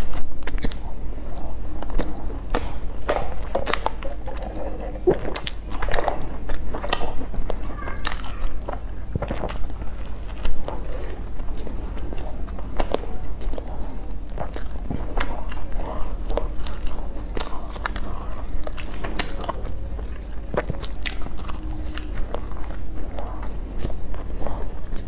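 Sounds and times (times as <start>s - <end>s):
chewing bread with mouth clicks: 0.0s - 25.0s.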